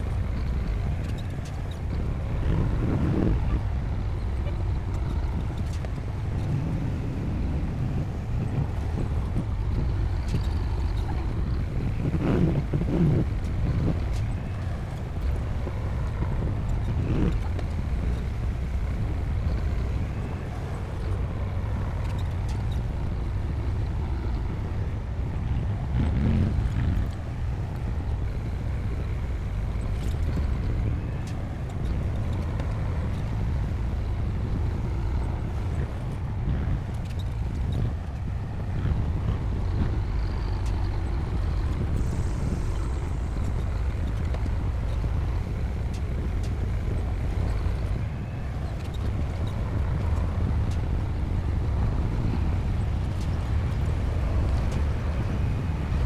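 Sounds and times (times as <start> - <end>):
bulldozer diesel engine rumbling: 0.0 - 56.0.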